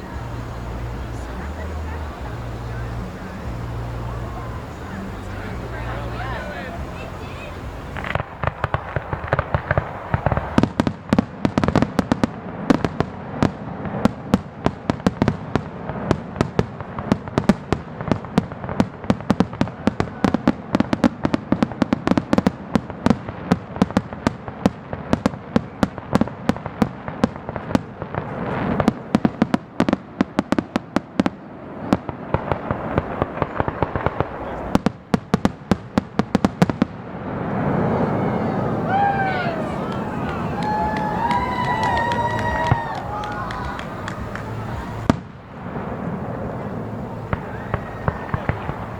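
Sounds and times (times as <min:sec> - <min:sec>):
fireworks cracks and bangs: 0:00.0 - 0:48.9.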